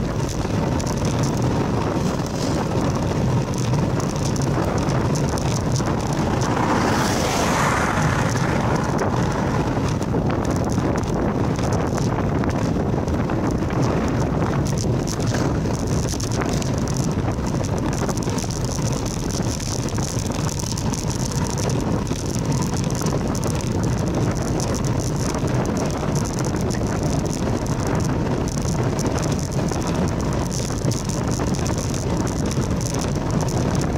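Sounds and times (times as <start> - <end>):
bicycle ticking and rattling: 0.0 - 33.9
tyre rumble on asphalt: 0.0 - 33.9
wind noise on microphone: 0.0 - 33.9.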